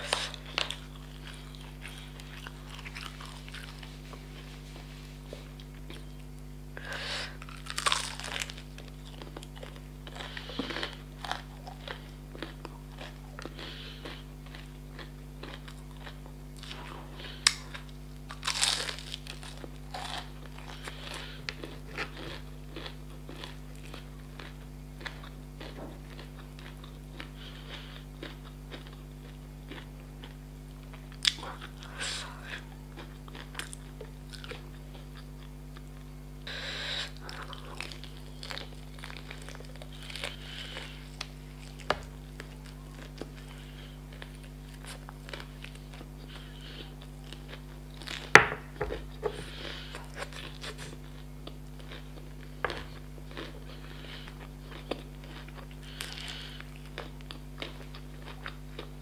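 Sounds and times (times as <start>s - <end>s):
chewing: 0.0s - 6.4s, 7.2s - 58.9s
low electrical hum: 0.0s - 59.0s.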